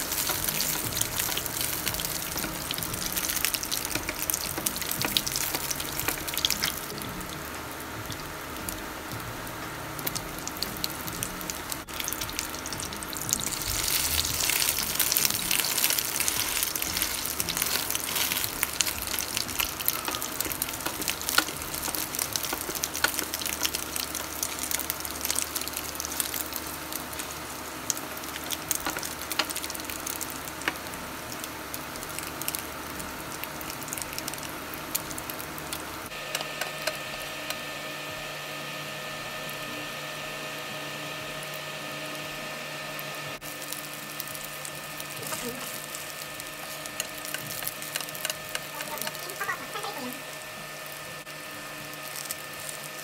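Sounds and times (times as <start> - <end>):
low hum: 0.0 - 53.0
patty sizzling and popping in oil: 0.0 - 53.0.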